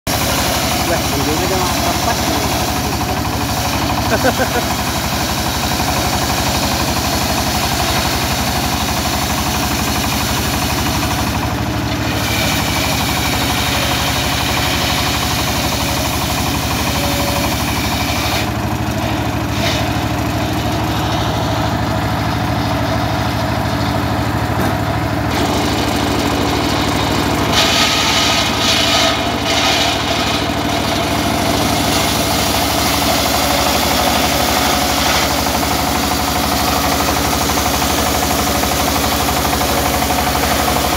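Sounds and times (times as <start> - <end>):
diesel engine running: 0.0 - 40.9
circular saw cutting timber: 0.1 - 40.9.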